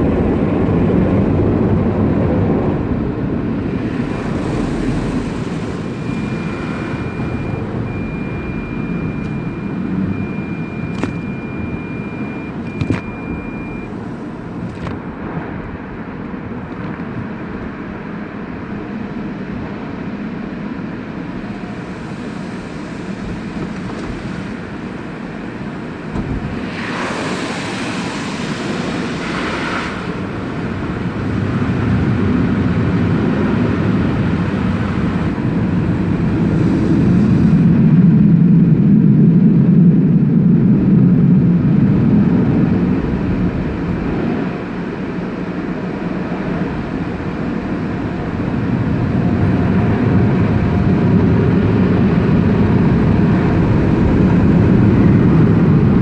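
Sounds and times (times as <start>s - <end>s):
car wash equipment rushing: 0.0s - 56.0s.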